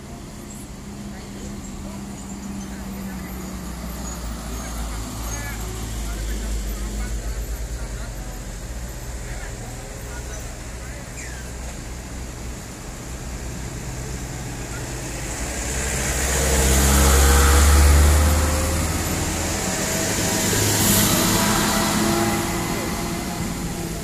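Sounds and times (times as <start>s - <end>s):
heavy diesel trucks passing: 0.0s - 24.0s.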